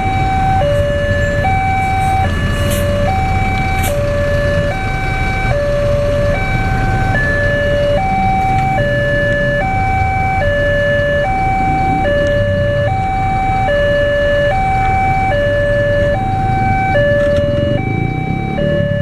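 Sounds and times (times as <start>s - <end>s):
two-tone crossing alarm: 0.0s - 19.0s.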